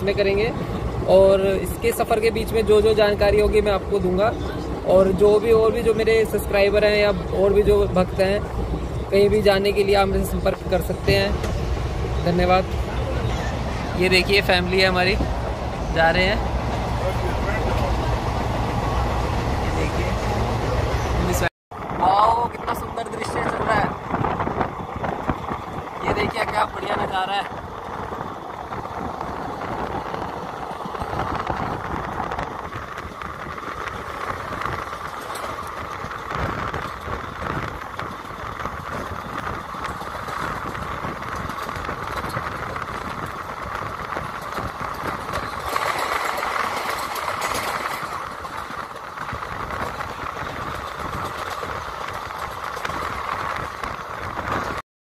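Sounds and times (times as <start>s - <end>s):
train wheels rumbling on rails: 0.0s - 54.8s
wind buffeting microphone: 0.0s - 54.8s.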